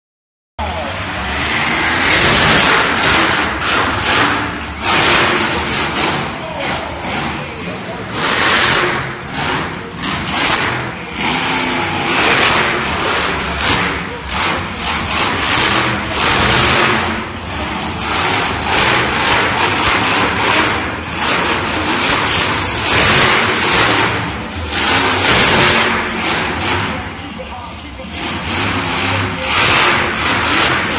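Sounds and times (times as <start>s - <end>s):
monster truck engine revving: 0.6s - 30.9s.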